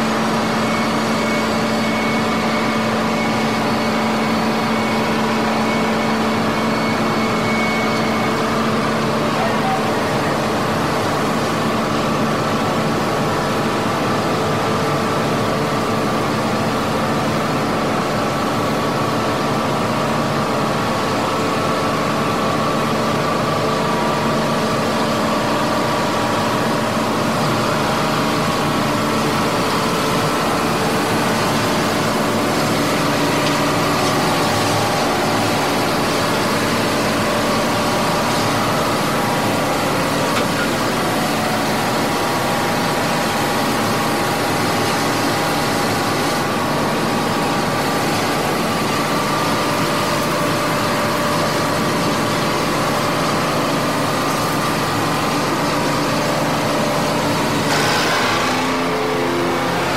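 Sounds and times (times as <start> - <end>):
heavy machinery engine drone: 0.0 - 59.9.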